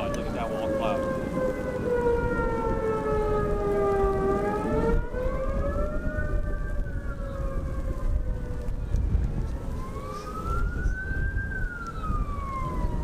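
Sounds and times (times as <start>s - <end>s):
steady low rumble: 0.0s - 13.0s
tornado warning siren wailing: 0.0s - 13.0s.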